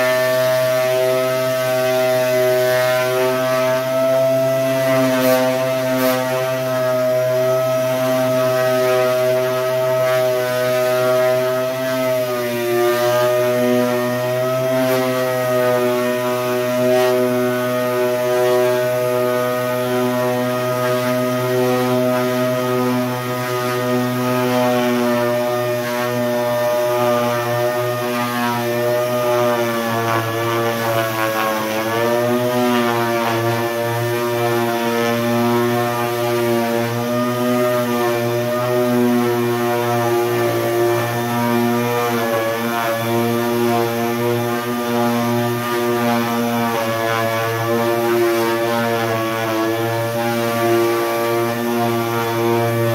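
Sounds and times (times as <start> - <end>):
sander humming whine: 0.0 - 52.9.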